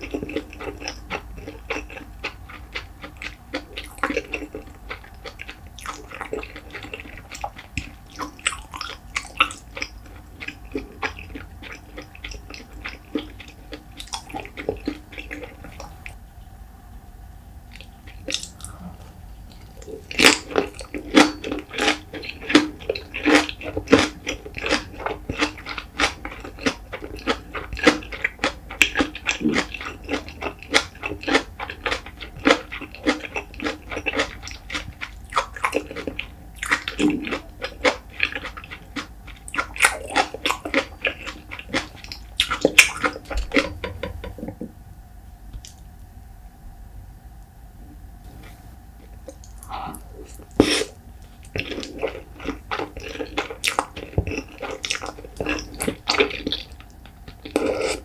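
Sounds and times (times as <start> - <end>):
wet chewing and mouth clicks: 0.0 - 16.2, 17.7 - 18.8, 19.5 - 44.6, 48.3 - 58.0.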